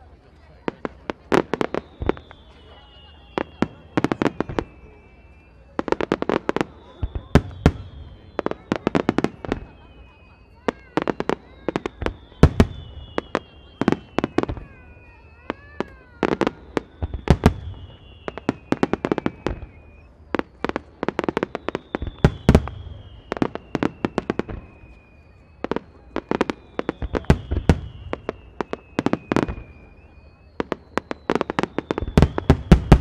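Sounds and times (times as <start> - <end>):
fireworks bursting with sharp bangs: 0.0 - 33.0
long falling whistling tones: 1.5 - 33.0.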